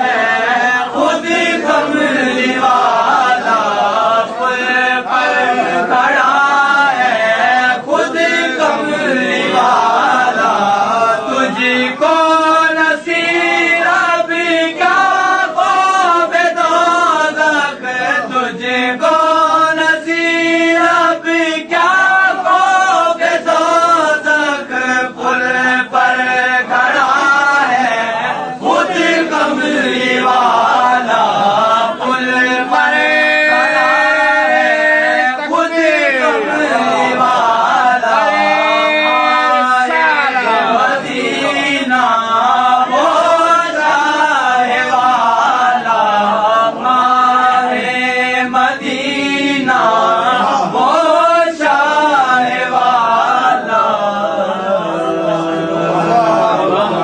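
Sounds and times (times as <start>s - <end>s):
man chanting devotional song: 0.0s - 57.0s.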